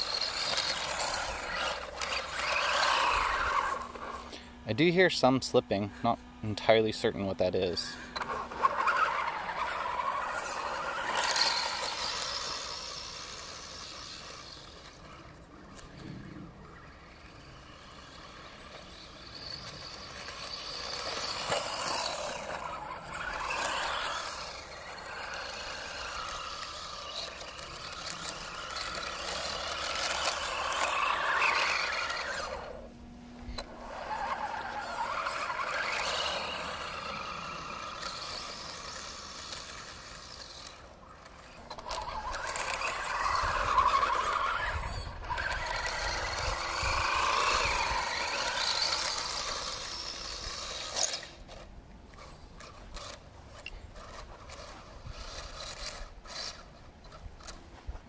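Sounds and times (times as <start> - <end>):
electric motor whining: 0.0 - 57.6
drivetrain slipping noise: 7.1 - 58.0.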